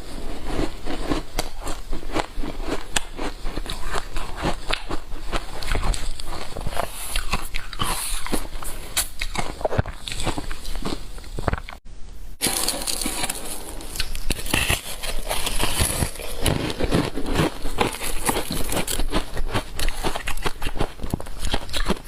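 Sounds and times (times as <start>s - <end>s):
ice crunching when chewed: 0.3s - 11.8s, 12.4s - 22.0s.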